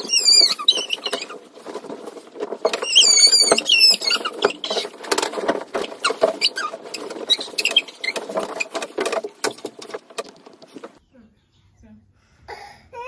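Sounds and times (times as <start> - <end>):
bedding rustling and patting: 0.0 - 11.0.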